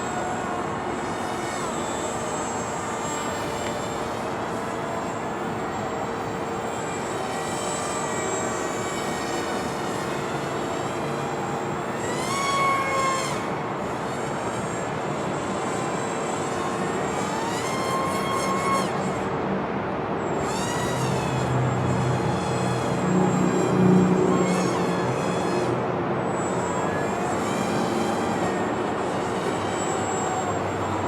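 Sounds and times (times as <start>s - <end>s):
small electric motors buzzing: 0.0s - 31.0s.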